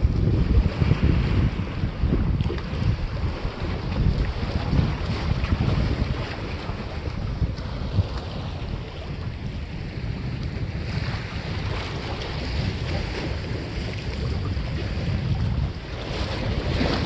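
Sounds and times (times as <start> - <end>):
sea waves washing on rocks: 0.0 - 17.0
wind buffeting microphone: 0.0 - 17.0.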